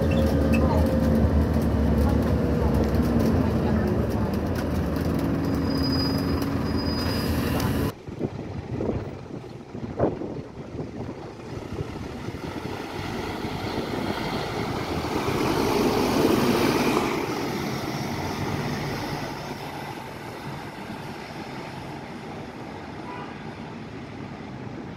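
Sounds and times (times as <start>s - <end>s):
diesel bus pulling away: 0.0s - 23.0s.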